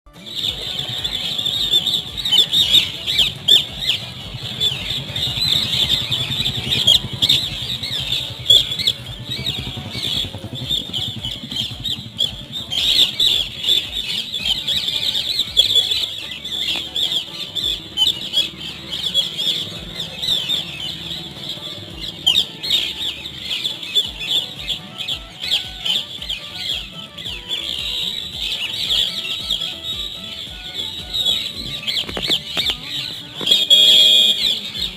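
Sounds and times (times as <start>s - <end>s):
parrots chattering: 0.2s - 34.9s.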